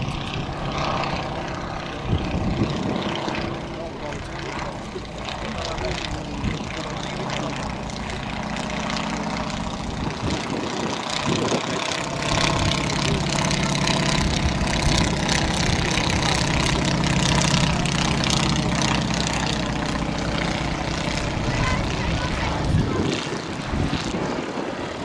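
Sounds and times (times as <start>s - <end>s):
propeller aircraft engine running: 0.0s - 25.0s.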